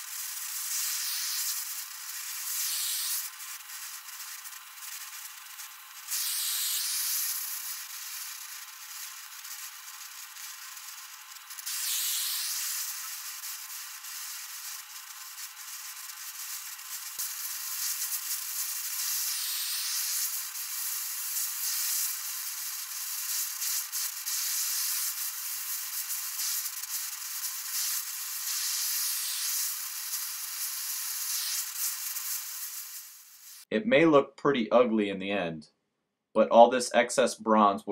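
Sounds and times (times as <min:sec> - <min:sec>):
torch flame hissing: 0:00.0 - 0:33.7.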